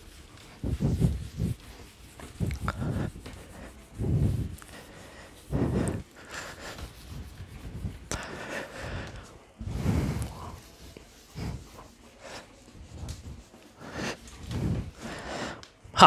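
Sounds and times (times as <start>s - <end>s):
cloth wiping whiteboard: 0.0s - 15.6s.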